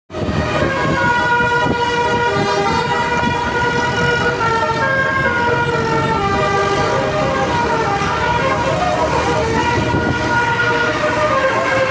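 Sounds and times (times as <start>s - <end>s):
bus engine rumble: 0.1s - 11.9s.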